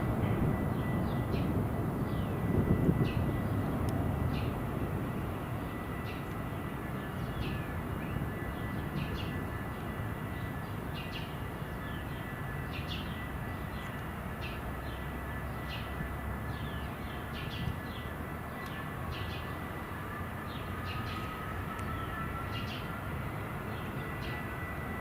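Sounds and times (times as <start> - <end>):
distant engines and traffic rumble: 0.0 - 25.0.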